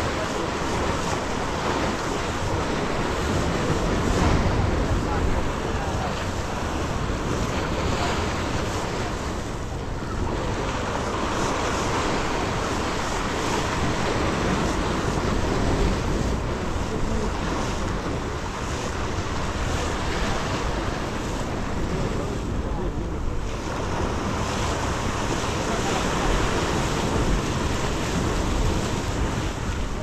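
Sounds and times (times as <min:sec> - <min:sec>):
waves breaking against rocks: 0:00.0 - 0:30.0
wind buffeting microphone: 0:00.0 - 0:30.0.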